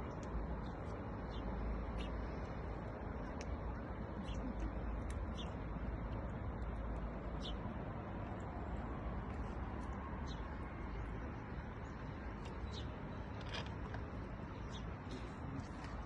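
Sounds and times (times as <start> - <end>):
steady outdoor rushing noise: 0.0 - 16.0.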